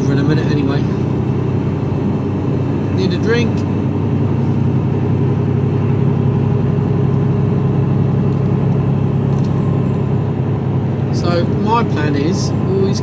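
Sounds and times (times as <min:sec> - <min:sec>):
lorry diesel engine drone: 0:00.0 - 0:13.0
road noise: 0:00.0 - 0:13.0.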